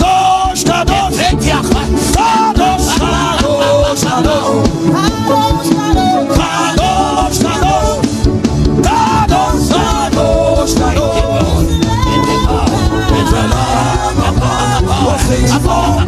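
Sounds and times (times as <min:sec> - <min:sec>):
band with drums and bass: 0:00.0 - 0:16.0
person singing: 0:00.0 - 0:16.0.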